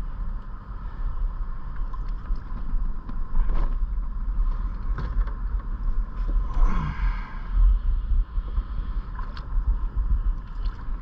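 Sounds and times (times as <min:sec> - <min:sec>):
faint steady whine: 0:00.0 - 0:11.0
wind buffeting microphone: 0:00.0 - 0:11.0.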